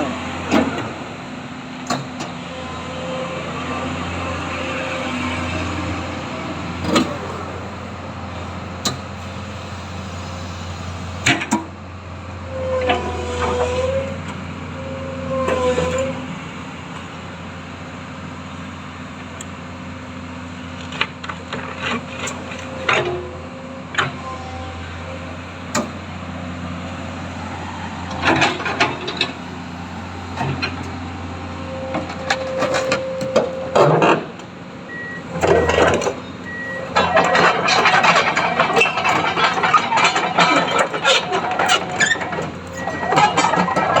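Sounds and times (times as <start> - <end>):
excavator diesel engine whining: 0.0 - 44.0.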